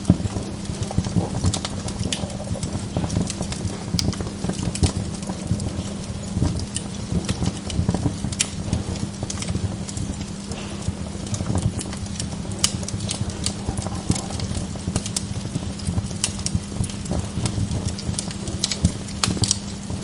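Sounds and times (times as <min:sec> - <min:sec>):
log fire crackling: 0:00.0 - 0:20.0
low steady rumble: 0:00.0 - 0:20.0.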